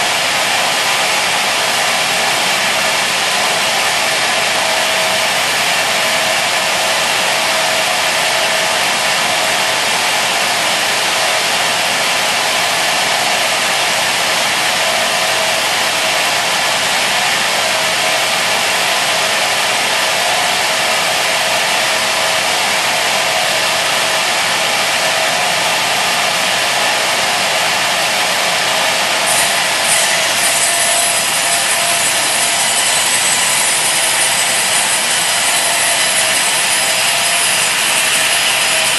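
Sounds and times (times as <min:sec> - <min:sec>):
high thin whine: 0:00.0 - 0:38.9
saw cutting timber: 0:00.0 - 0:38.9.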